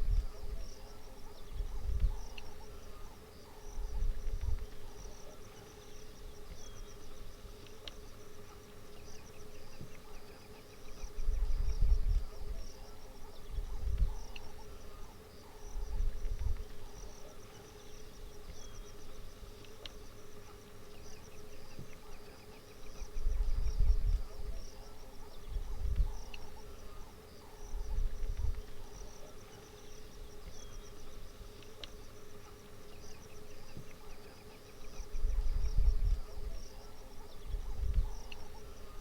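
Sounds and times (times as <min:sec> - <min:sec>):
insects chirping: 0:00.0 - 0:39.0.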